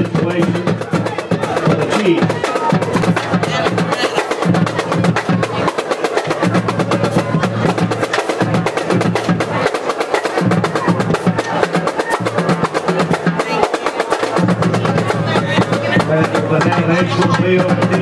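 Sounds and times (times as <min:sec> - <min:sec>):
fast snare drumming: 0:00.0 - 0:18.0.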